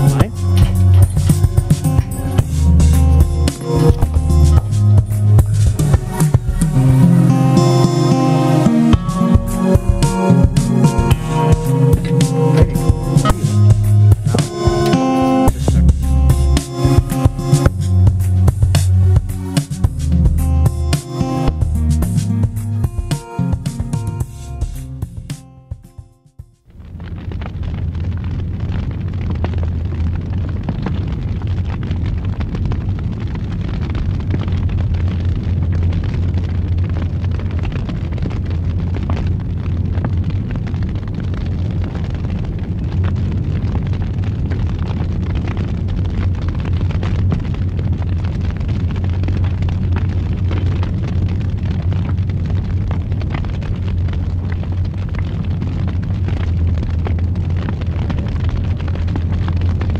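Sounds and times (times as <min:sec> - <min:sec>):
campfire flames roaring: 0:00.0 - 0:25.3, 0:26.6 - 0:59.9
fire crackles and pops: 0:00.0 - 0:59.9.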